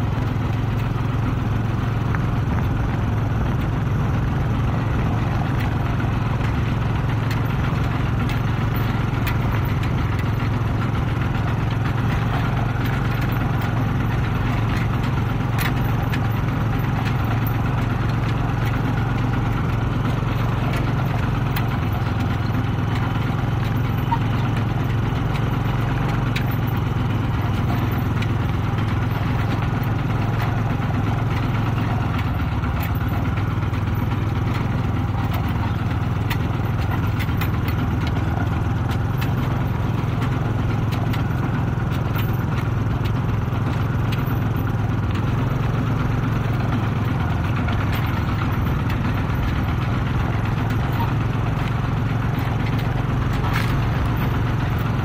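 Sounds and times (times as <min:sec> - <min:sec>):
diesel tractor engine running: 0:00.0 - 0:55.0
trailer rattles and clicks: 0:00.0 - 0:55.0.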